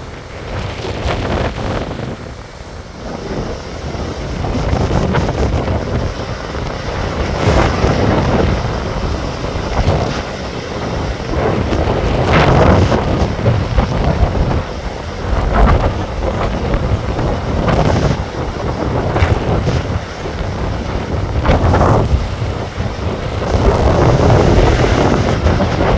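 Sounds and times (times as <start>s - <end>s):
ocean surf breaking: 0.0s - 25.9s
wind buffeting microphone: 0.0s - 25.9s.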